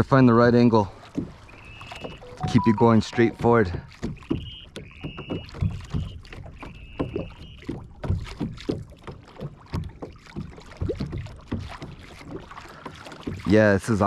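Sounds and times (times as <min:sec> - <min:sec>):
water splashing against kayak hull: 0:00.0 - 0:14.0.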